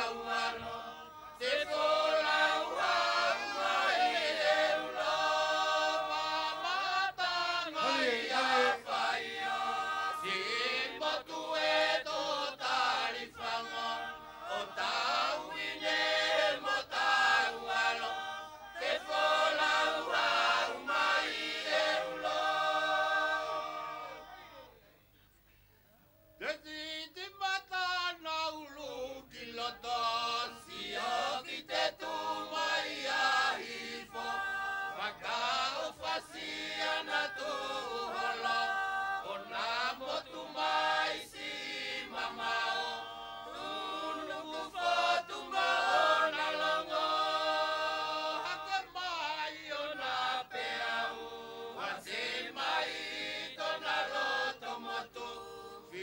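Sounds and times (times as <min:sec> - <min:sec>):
chorus singing unaccompanied: 0:00.0 - 0:24.8, 0:28.4 - 0:56.0.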